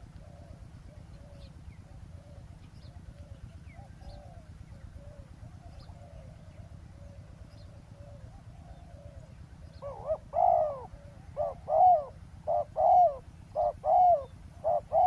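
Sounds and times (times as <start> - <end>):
doves cooing: 0.0 - 15.0
small birds chirping: 0.0 - 15.0.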